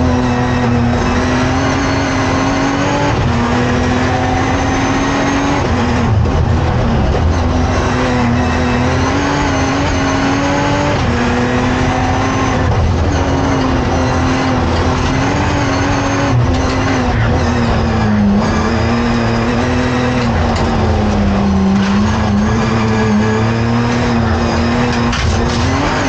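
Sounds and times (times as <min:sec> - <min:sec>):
car engine running hard: 0:00.0 - 0:26.0.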